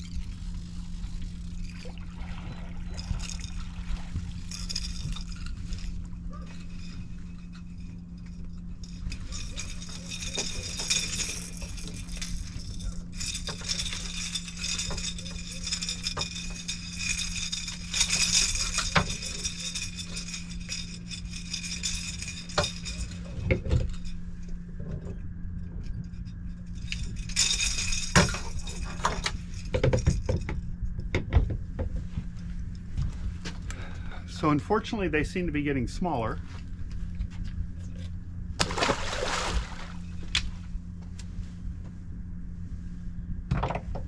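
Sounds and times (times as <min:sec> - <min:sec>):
fishing gear clinking and rattling: 0:00.0 - 0:35.6
boat motor humming: 0:00.0 - 0:44.0.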